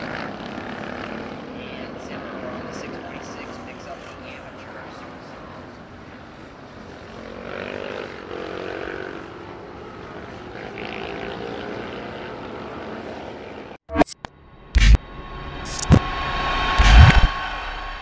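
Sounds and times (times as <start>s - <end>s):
distant motorcycle engines accelerating: 0.0s - 18.0s.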